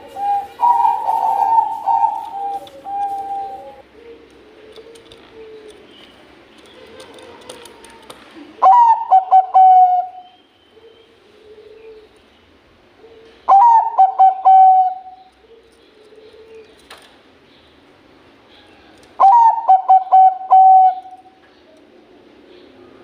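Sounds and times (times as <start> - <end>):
faint low dove coos: 0.0 - 6.0, 6.7 - 12.2, 12.9 - 16.8, 18.5 - 23.0
dove singing clipped notes: 0.0 - 23.0.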